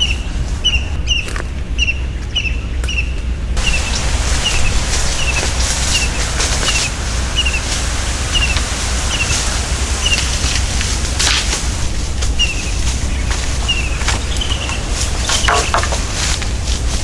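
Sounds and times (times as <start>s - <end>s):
steady low rumble: 0.0s - 2.2s, 3.3s - 17.0s
bird chirping: 0.0s - 16.6s.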